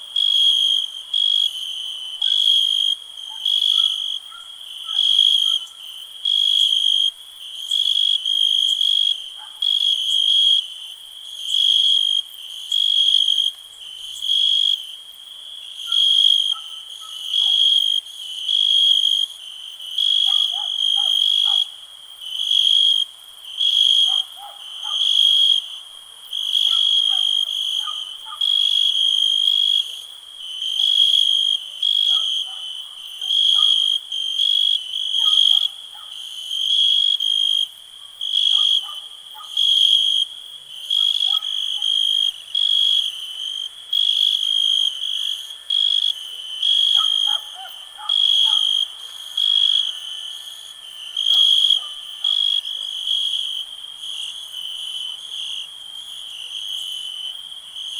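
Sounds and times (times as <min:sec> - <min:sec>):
cricket chirping: 0:00.0 - 0:57.9.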